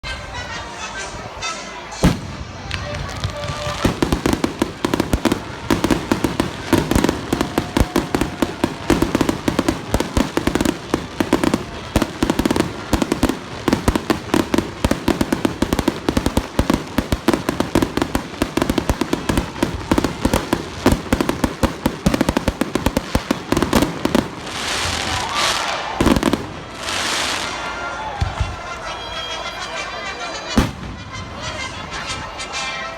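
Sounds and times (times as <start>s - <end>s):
fireworks cracking and popping: 2.0s - 28.6s.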